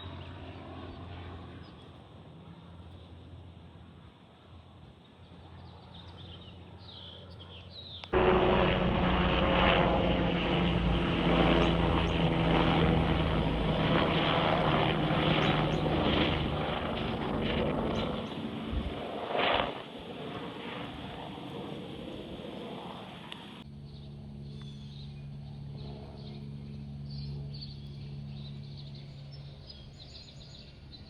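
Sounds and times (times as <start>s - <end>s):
aircraft engine noise: 0.0s - 31.0s.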